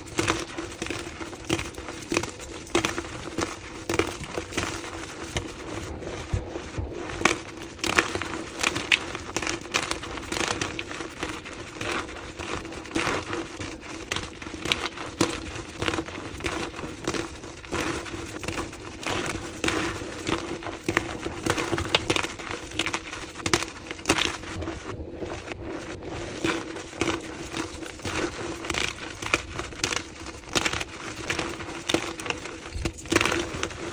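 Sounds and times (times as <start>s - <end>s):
chalk being crushed: 0.0s - 6.4s, 7.1s - 24.7s, 25.8s - 33.9s.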